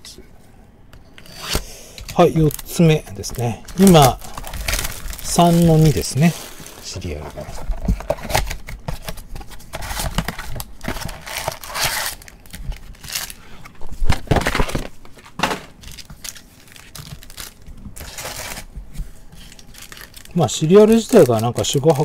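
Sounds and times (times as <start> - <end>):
card packs rustling and crinkling: 2.0 - 22.0.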